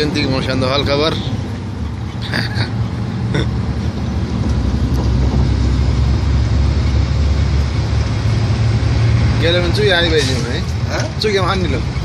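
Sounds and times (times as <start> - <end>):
road noise: 0.0 - 12.0
truck engine drone: 0.0 - 12.0.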